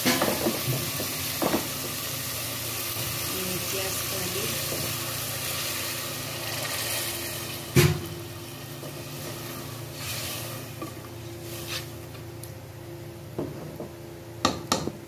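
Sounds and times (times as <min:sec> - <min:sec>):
meat sizzling in a pot: 0:00.0 - 0:12.3.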